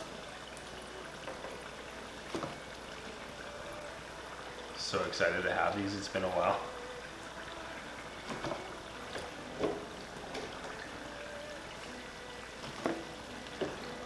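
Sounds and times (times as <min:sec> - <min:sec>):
hot oil bubbling and sizzling: 0:00.0 - 0:14.0.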